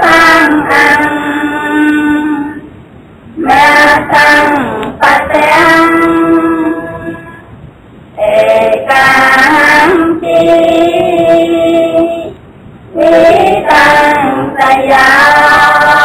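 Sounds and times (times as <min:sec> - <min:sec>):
high voice singing: 0:00.0 - 0:02.8, 0:03.4 - 0:07.6, 0:08.2 - 0:16.0.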